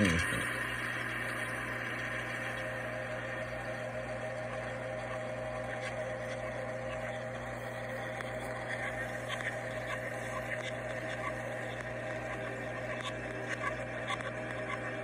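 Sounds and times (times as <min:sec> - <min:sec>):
machine hum with low drone: 0:00.0 - 0:15.0.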